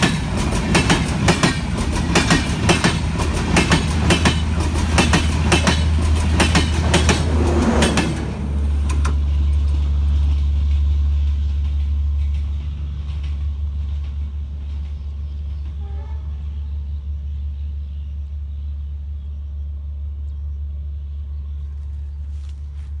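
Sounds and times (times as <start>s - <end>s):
passing train rumble: 0.0s - 23.0s.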